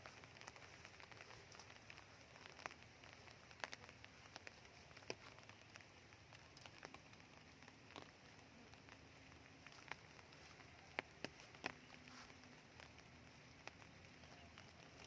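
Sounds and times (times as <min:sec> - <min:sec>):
faint steady hiss: 0:00.0 - 0:15.0
raindrops dripping: 0:00.0 - 0:15.0.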